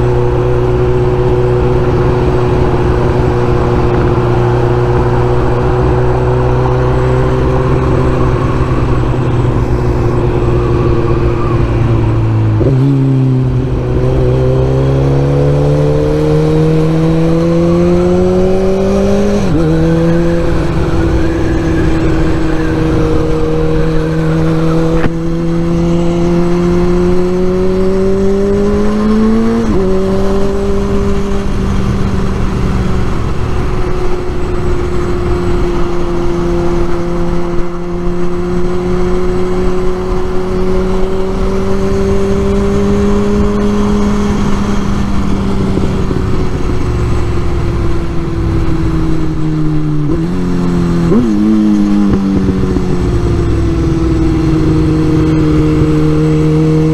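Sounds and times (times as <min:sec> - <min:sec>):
low wind rumble: 0:00.0 - 0:56.9
motorcycle engine revving: 0:00.0 - 0:56.9.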